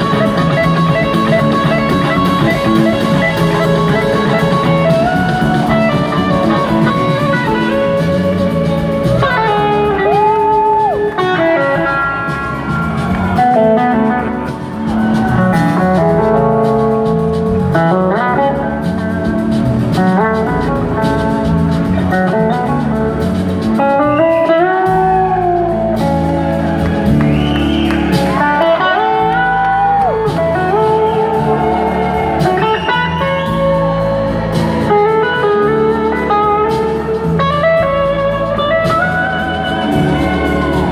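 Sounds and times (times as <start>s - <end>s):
blues-rock band playing loudly: 0.0s - 40.9s
slide guitar gliding notes: 0.0s - 40.9s.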